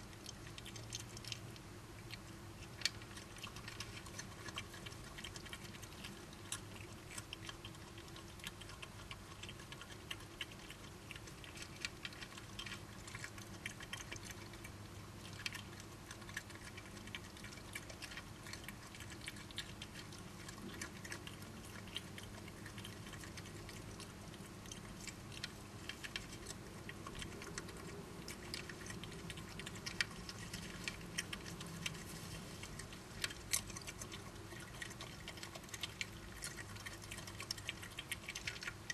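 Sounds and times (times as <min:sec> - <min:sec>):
badgers chewing: 0:00.0 - 0:38.9
steady low hum: 0:00.0 - 0:38.9.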